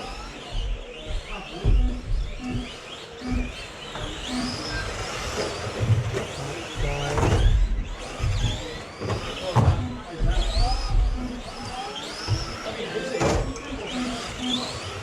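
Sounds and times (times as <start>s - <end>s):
toy truck motors whining: 0.0s - 15.0s
low knocks and rumble: 0.1s - 12.6s.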